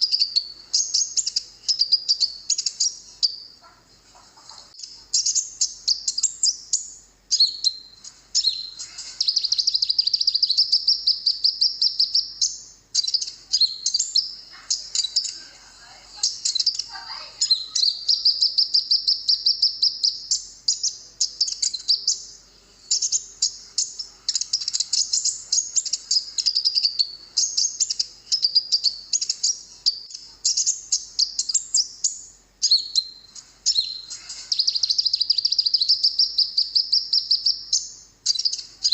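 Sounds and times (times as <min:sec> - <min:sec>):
bird singing rapid trills: 0:00.0 - 0:03.8, 0:04.7 - 0:38.9.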